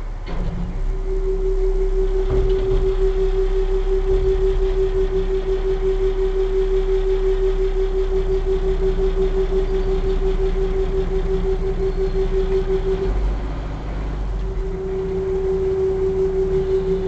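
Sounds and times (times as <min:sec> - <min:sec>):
engine low rumble: 0:00.0 - 0:17.0
ferry engine pulsing whine: 0:00.0 - 0:17.0.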